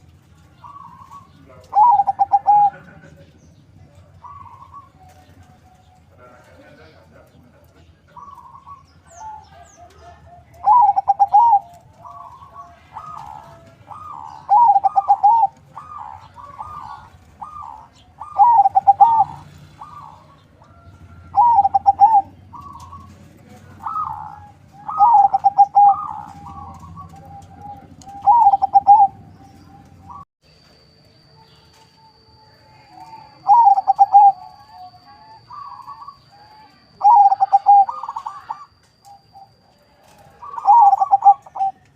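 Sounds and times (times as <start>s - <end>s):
dove cooing: 0.0s - 30.2s, 32.8s - 41.9s.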